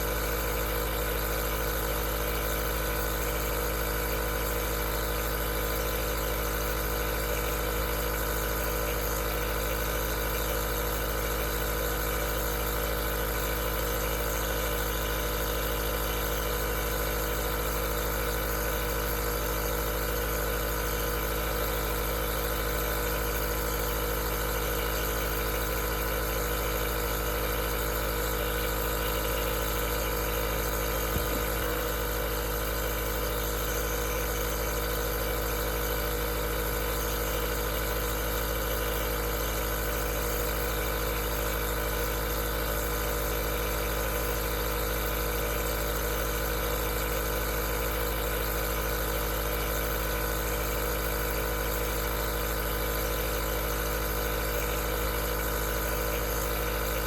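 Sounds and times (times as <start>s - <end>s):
nebulizer compressor humming: 0.0s - 57.0s.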